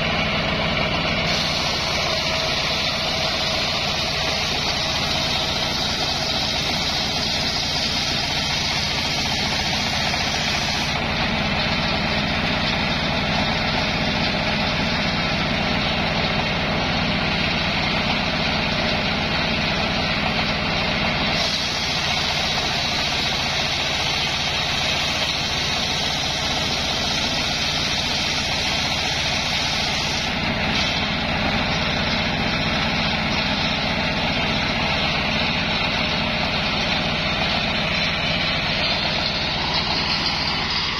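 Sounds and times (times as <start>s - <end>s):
circular saw cutting log: 0.0s - 40.9s
diesel engine running: 0.0s - 40.9s.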